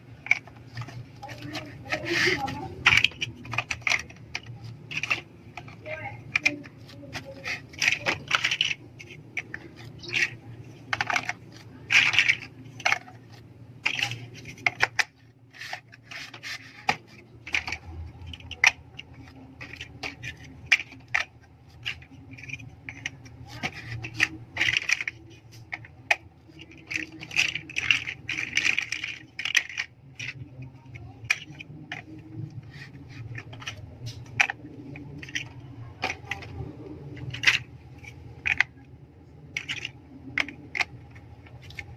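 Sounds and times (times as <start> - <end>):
plastic bricks rattling: 0.0 - 41.9
plastic bricks snapping together: 0.1 - 41.9.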